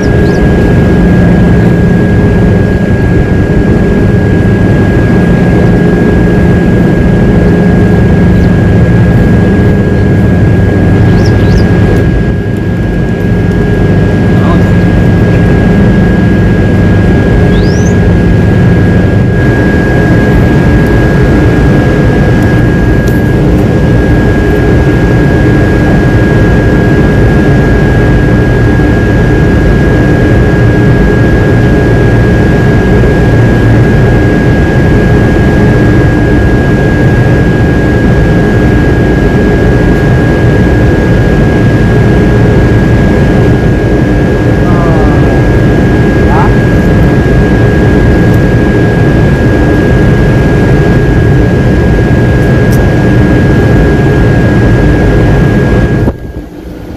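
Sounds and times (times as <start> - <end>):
constant high-pitched tone: 0.0 - 56.9
low rumbling roar: 0.0 - 56.9.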